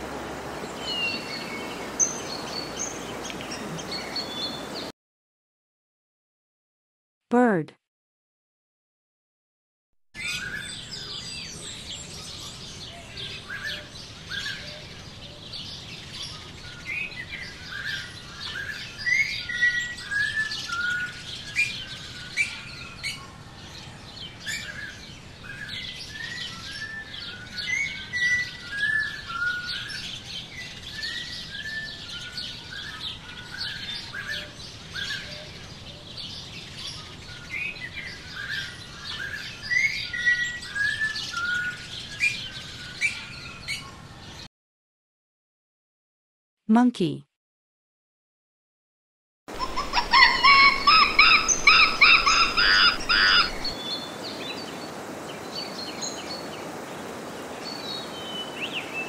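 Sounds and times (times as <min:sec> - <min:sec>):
songbirds chirping and singing: 0:00.4 - 0:04.9, 0:10.2 - 0:44.5, 0:49.5 - 0:59.0.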